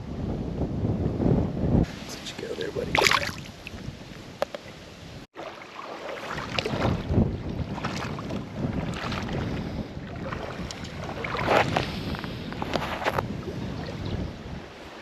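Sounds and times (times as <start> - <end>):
wind gusting on microphone: 0.0 - 5.3, 6.1 - 15.0
kayak water splashes: 1.9 - 15.0.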